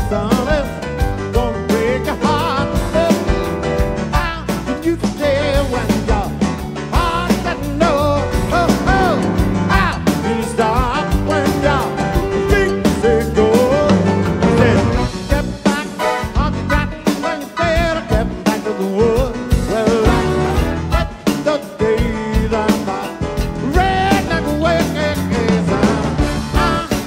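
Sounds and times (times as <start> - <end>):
live rock band playing: 0.0 - 27.0
piano: 0.0 - 27.0
steady drum beat: 0.0 - 27.0.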